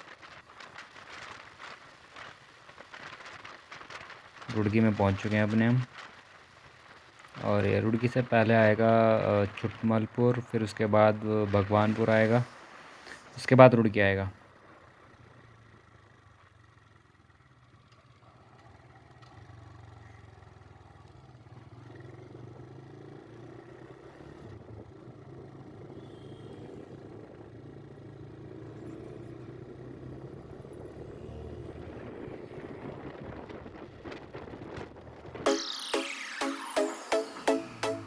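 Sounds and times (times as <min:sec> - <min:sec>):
road and traffic noise: 0:00.0 - 0:35.4
vehicle engine running: 0:00.2 - 0:13.4, 0:14.4 - 0:35.9.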